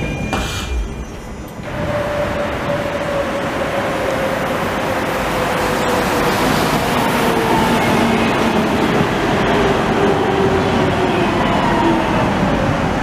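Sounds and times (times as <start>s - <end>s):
tram wheels rumbling: 0.0s - 13.0s.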